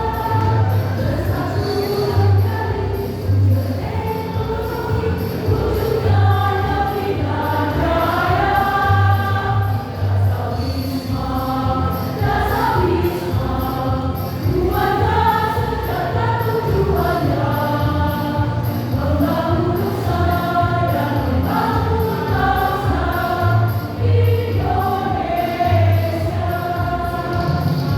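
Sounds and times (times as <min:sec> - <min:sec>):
bass: 0:00.0 - 0:27.9
choir singing: 0:00.0 - 0:27.9.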